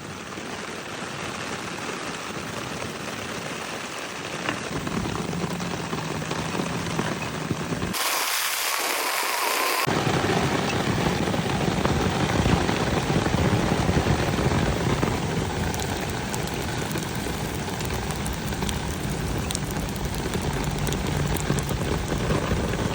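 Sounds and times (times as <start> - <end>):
food deep-frying in oil: 0.0 - 22.9.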